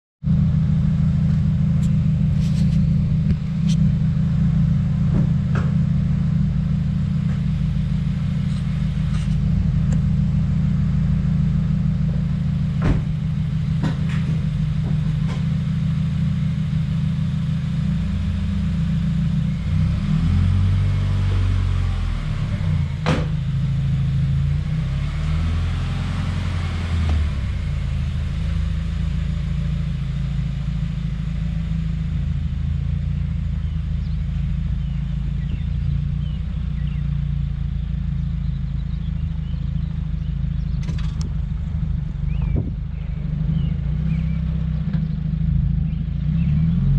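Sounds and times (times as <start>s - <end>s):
car engine idling roughly: 0.3s - 19.7s, 27.6s - 46.0s.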